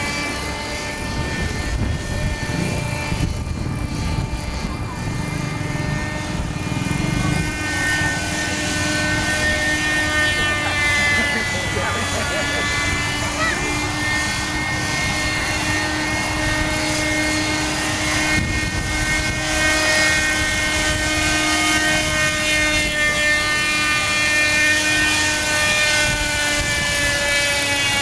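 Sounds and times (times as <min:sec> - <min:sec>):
model helicopter engine: 0:00.0 - 0:28.0
rotor noise: 0:00.0 - 0:28.0
wind rumble on microphone: 0:00.8 - 0:10.8, 0:13.8 - 0:28.0.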